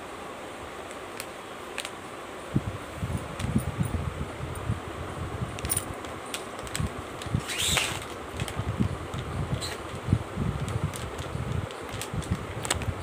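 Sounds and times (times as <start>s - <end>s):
fan whirring: 0.0s - 13.0s.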